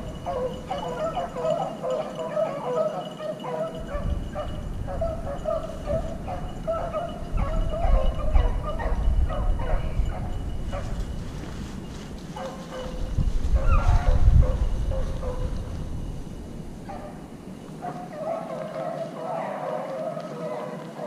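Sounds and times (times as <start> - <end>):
dogs baying: 0.0 - 11.2, 12.3 - 15.8, 16.8 - 21.0.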